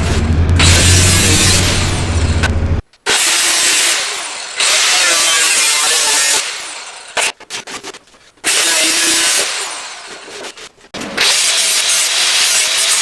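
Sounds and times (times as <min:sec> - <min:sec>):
power tool bursts: 0:00.0 - 0:02.5, 0:03.1 - 0:07.3, 0:08.5 - 0:10.4, 0:11.2 - 0:13.0.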